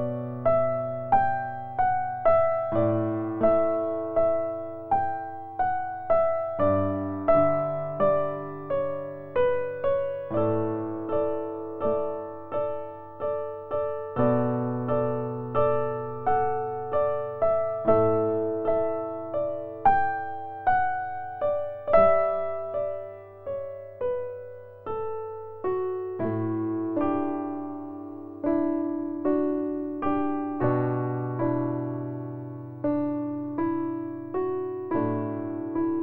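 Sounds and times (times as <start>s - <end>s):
slow gentle piano music: 0.0s - 36.0s.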